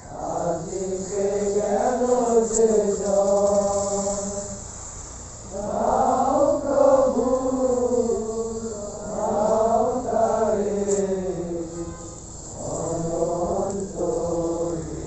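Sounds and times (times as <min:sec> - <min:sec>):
voices singing slow chant: 0:00.0 - 0:15.0.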